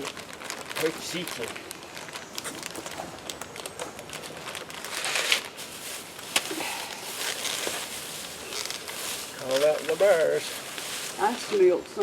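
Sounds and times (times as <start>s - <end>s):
food packaging crinkling: 0.0s - 12.0s.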